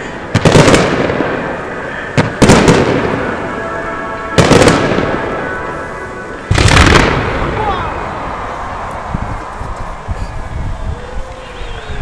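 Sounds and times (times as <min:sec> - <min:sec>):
fireworks booming: 0:00.0 - 0:10.1.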